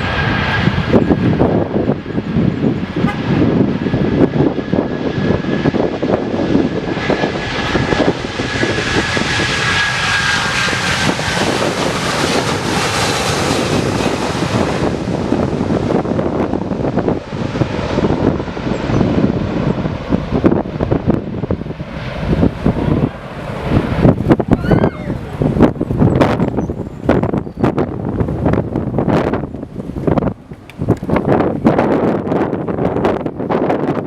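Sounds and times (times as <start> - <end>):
airplane engines roaring: 0.0 - 34.0.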